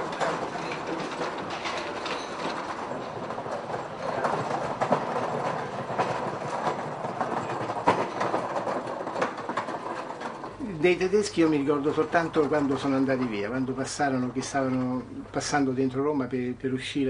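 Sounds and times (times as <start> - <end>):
cart wheels rattling over cobblestones: 0.0 - 16.0.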